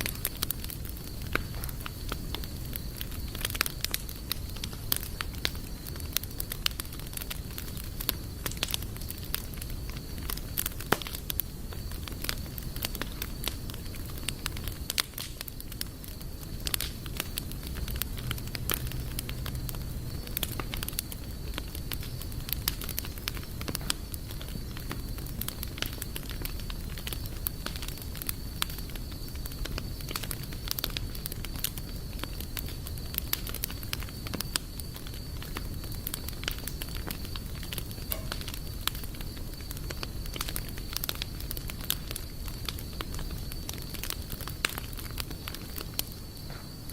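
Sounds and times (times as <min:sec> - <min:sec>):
campfire crackling and popping: 0:00.0 - 0:46.9
low rumble of flame: 0:00.0 - 0:46.9.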